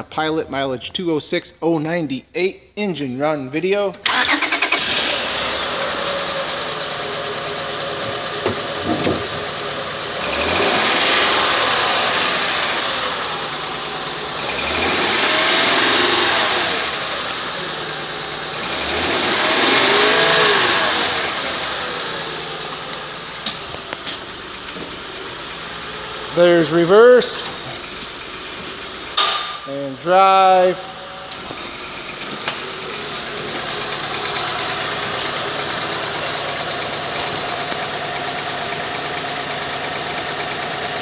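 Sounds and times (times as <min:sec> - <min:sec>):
car engine starting: 0:03.9 - 0:41.0
car engine idling and revving: 0:04.0 - 0:41.0.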